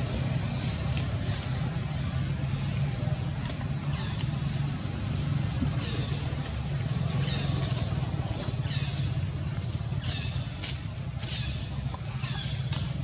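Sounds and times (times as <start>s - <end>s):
motor vehicle engines rumbling: 0.0s - 13.0s.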